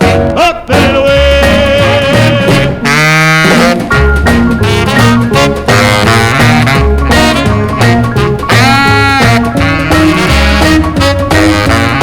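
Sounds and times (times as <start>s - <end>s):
rhythm and blues instrumental record: 0.0s - 12.0s.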